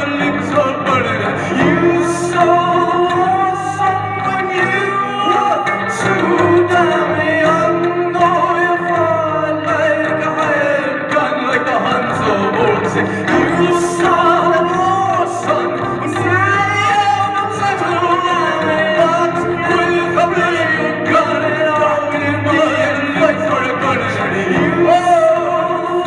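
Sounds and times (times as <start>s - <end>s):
person singing into a microphone: 0.0s - 26.0s.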